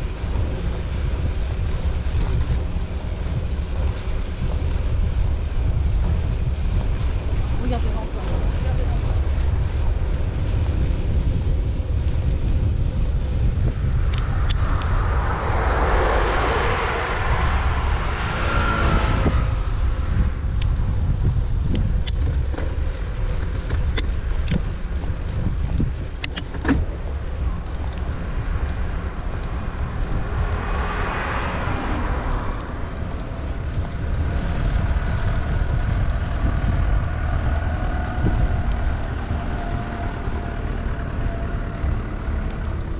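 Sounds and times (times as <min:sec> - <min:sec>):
cars passing: 0:00.0 - 0:42.9
wind rumble on microphone: 0:00.0 - 0:42.9.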